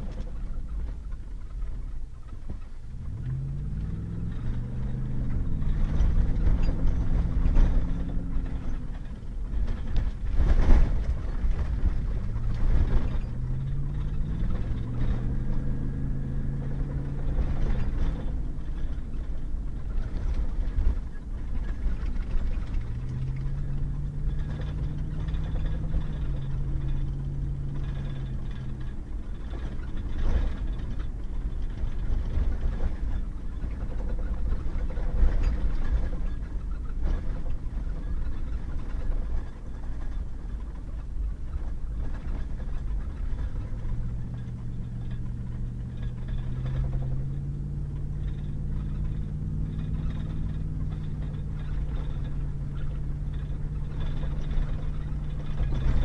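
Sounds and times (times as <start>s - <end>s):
truck engine: 0.0s - 56.0s
tyres rumbling on gravel road: 0.0s - 56.0s.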